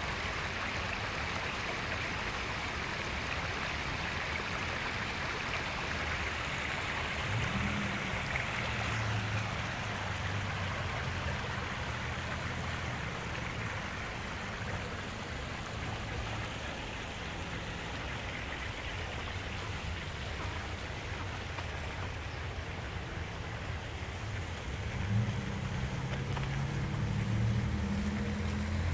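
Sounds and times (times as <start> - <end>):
water rushing and splashing: 0.0 - 28.9.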